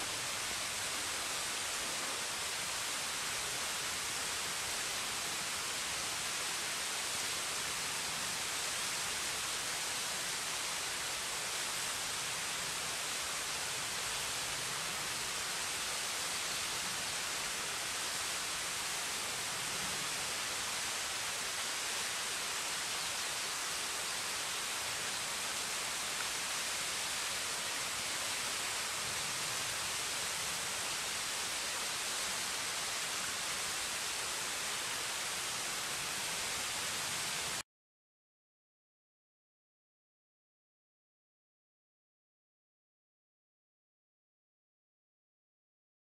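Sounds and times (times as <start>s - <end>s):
waterfall hissing: 0.0s - 37.6s.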